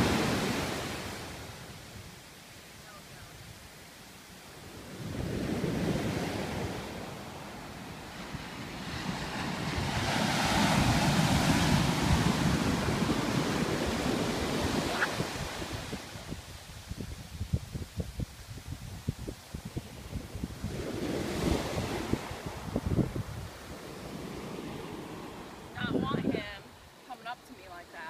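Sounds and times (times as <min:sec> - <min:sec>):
waves breaking on beach: 0:00.0 - 0:28.0
wind buffeting microphone: 0:04.5 - 0:28.0.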